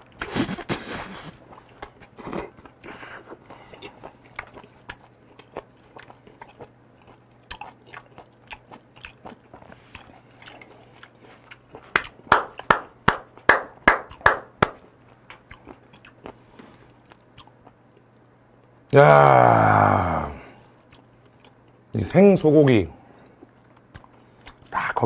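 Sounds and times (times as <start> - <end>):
person chewing food: 0.0 - 18.2, 20.2 - 21.8, 23.2 - 24.8.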